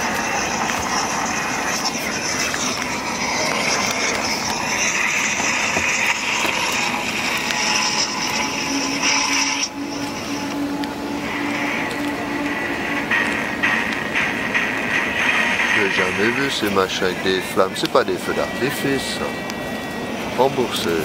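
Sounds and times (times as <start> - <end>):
fireworks crackling and hissing: 0.0 - 19.6.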